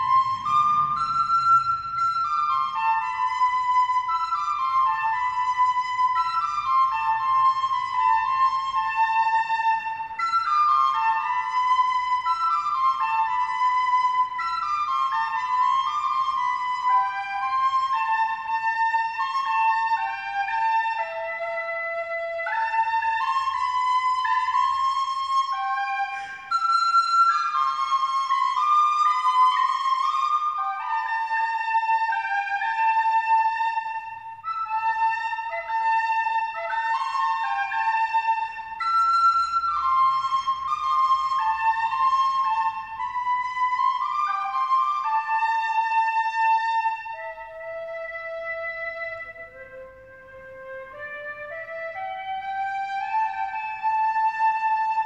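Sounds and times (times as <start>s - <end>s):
flute-like solo melody: 0.0s - 55.0s.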